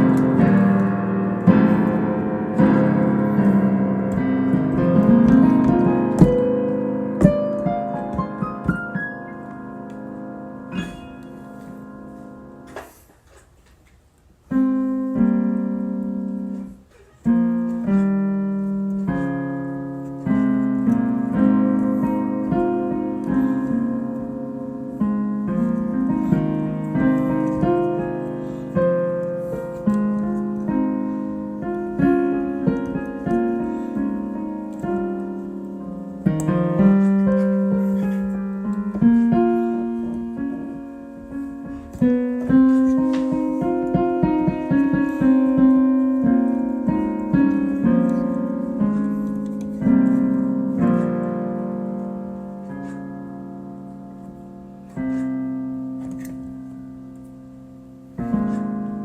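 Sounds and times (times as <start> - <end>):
solo piano playing: 0.0 - 13.0, 14.4 - 59.0.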